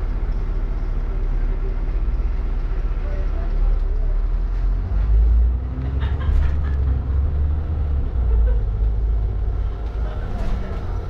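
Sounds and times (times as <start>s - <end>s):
bus engine rumble: 0.0s - 11.0s
road noise: 0.0s - 11.0s.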